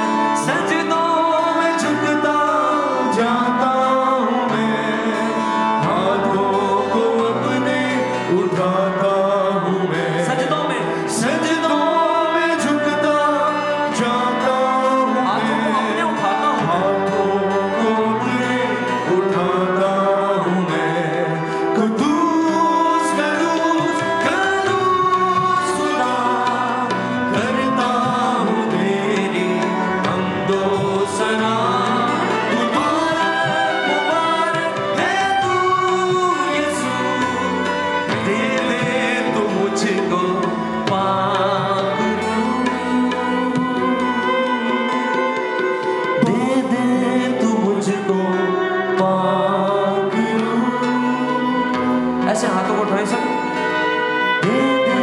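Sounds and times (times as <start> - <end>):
band playing slow worship song: 0.0 - 55.0
person singing: 0.0 - 55.0.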